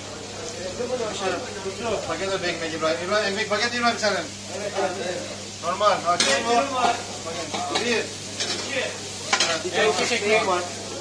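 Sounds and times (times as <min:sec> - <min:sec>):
meat sizzling in metal pan: 0:00.0 - 0:11.0.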